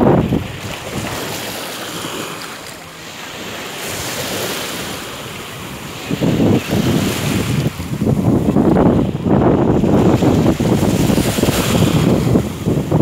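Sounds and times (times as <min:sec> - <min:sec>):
wind buffeting microphone: 0:00.0 - 0:01.7, 0:03.8 - 0:13.0
waves breaking on shore: 0:00.0 - 0:13.0.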